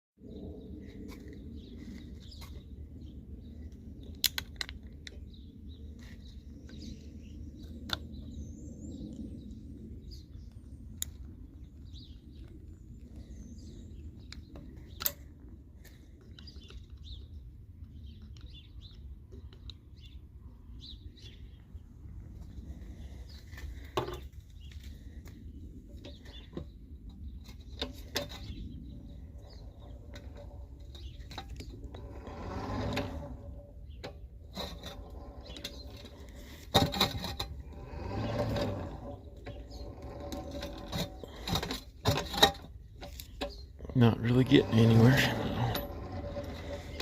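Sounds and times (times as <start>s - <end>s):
low background rumble: 0.2s - 47.0s
small birds chirping: 0.3s - 47.0s.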